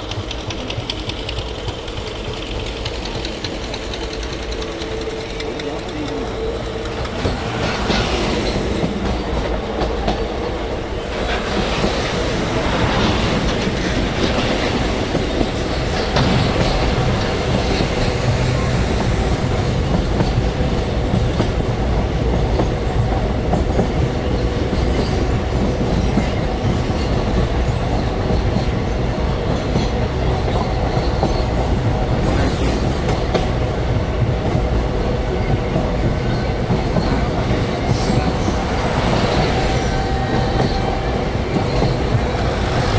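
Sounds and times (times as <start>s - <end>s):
clickety-clack over rail joints: 0.0s - 42.9s
train wheels rumbling on rails: 0.0s - 42.9s.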